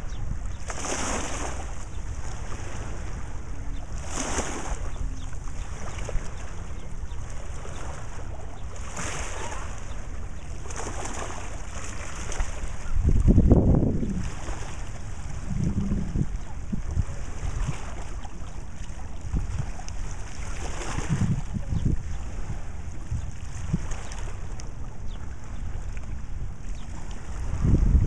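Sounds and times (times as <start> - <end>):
waves lapping on rocky shore: 0.0 - 28.0
wind buffeting microphone: 0.0 - 28.0.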